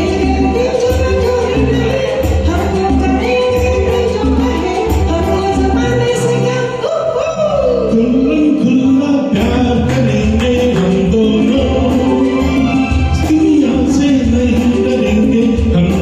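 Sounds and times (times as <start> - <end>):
backing music with steady beat: 0.0 - 6.6, 8.1 - 16.0
person singing: 0.0 - 16.0.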